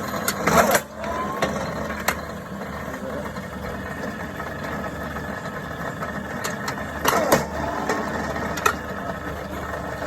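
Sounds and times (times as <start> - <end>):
rebar cutter motor humming: 0.0 - 10.0.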